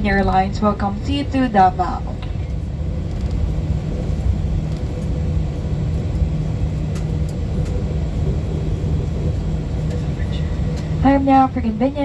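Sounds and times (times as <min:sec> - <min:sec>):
idling jet engines rumble: 0:00.0 - 0:12.0
steady cabin hum: 0:00.0 - 0:12.0.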